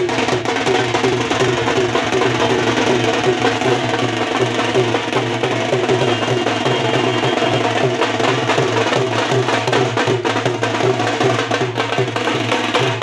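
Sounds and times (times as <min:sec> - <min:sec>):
fast barrel drumming: 0:00.0 - 0:13.0.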